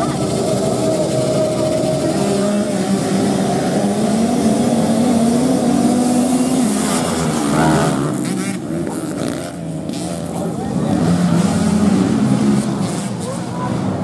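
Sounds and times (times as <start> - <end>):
motorcycles revving: 0.0 - 14.0.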